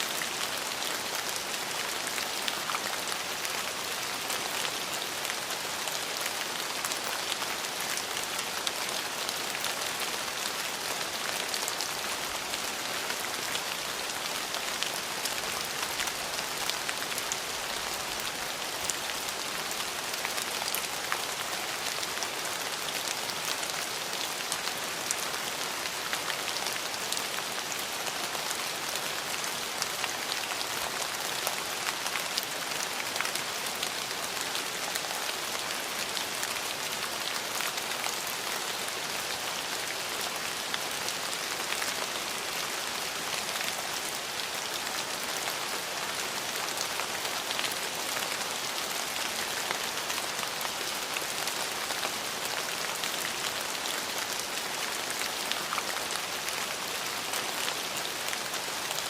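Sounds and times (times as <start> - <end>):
raindrops ticking on surfaces: 0.0 - 59.0
steady rain hiss: 0.0 - 59.0.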